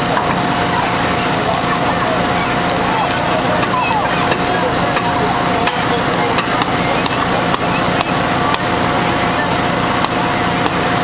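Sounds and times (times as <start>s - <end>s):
crowd chatter: 0.0s - 11.0s
engine running with whine: 0.0s - 11.0s.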